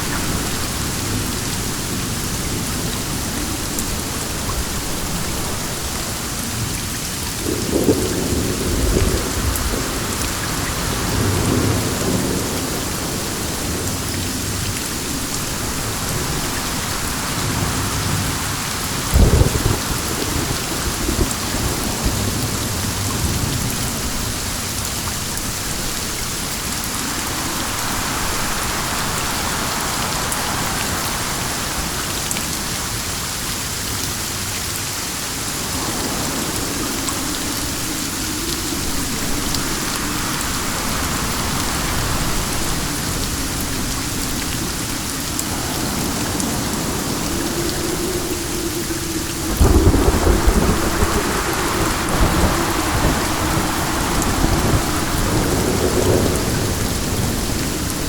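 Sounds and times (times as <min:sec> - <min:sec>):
thunder crack and rumble: 0:00.0 - 0:26.0, 0:35.6 - 0:58.0
steady rain: 0:00.0 - 0:58.0
wind: 0:00.0 - 0:58.0.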